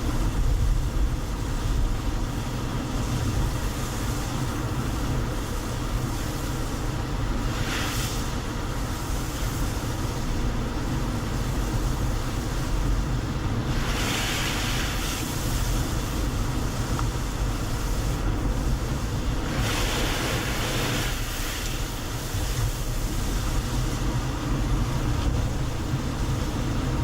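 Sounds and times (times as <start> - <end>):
car road noise rumble: 0.0 - 27.0
tyre hiss: 0.1 - 27.0.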